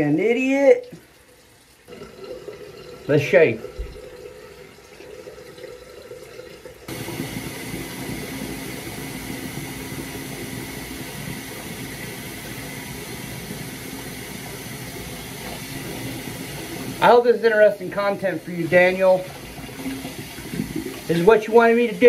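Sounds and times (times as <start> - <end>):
tap water running into sink: 0.7 - 22.0.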